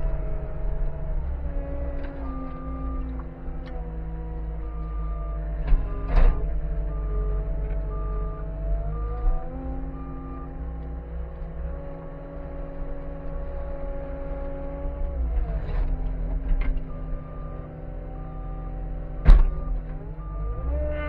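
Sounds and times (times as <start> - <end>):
hydraulic whine: 0.0 - 21.0
skid steer engine running: 0.0 - 21.0.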